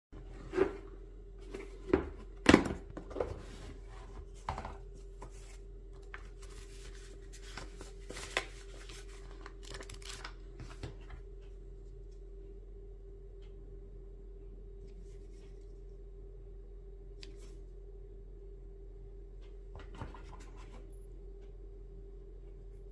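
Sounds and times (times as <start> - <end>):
steady hum: 0.2 - 22.9.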